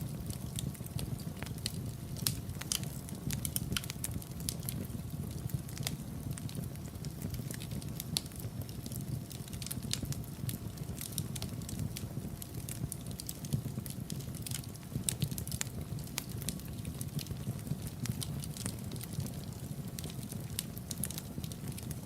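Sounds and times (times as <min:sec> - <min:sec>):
fire flames rumbling: 0:00.0 - 0:22.0
fire popping and crackling: 0:00.0 - 0:22.0.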